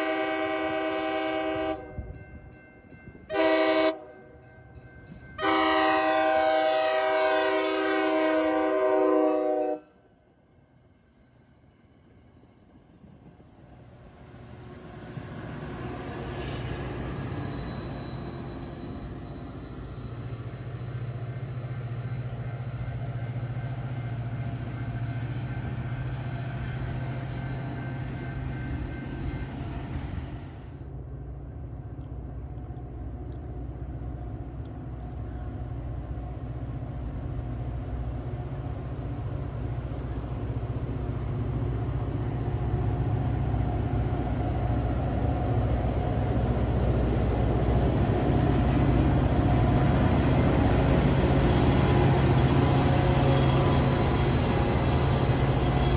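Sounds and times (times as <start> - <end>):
diesel train passing: 0.0 - 55.9.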